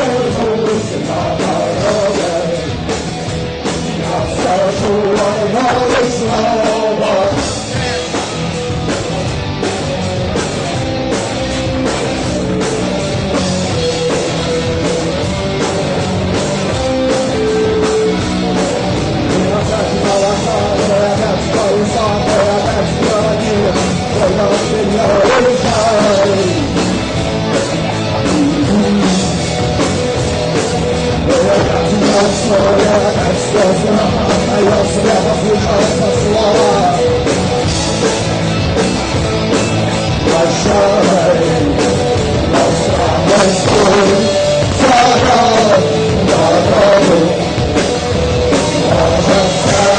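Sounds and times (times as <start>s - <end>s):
person singing: 0.0s - 2.9s, 3.7s - 8.4s, 14.1s - 30.2s, 30.8s - 38.1s, 39.9s - 49.9s
rock band playing live: 0.0s - 49.9s.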